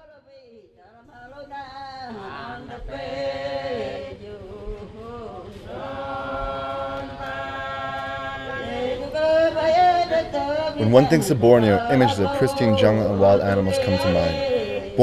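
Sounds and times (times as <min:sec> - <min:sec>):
men chanting: 0:02.1 - 0:15.0.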